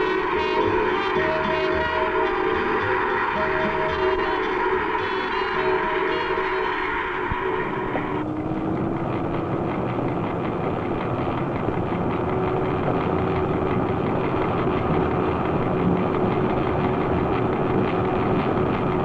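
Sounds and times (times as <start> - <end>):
heavy engine rumbling: 0.0 - 19.0.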